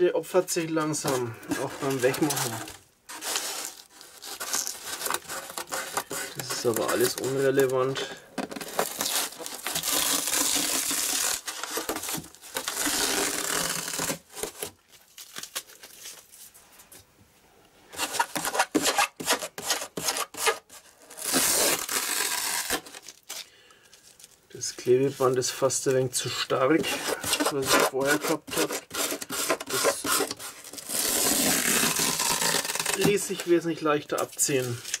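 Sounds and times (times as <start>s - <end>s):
tape crackling: 0.6s - 17.0s, 20.3s - 35.0s
tape tearing off foam: 1.0s - 16.3s, 17.9s - 23.5s, 26.8s - 35.0s.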